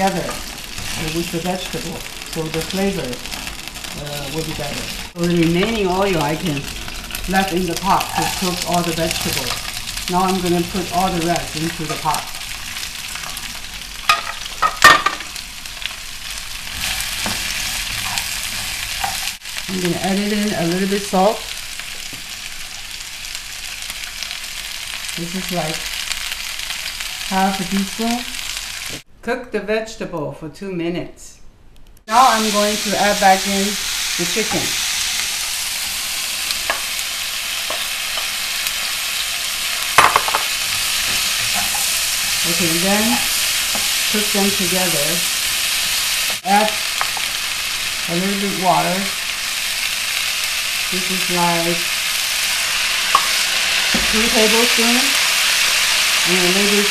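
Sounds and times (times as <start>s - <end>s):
vegetables sizzling in hot oil: 0.0s - 29.0s, 32.1s - 56.9s.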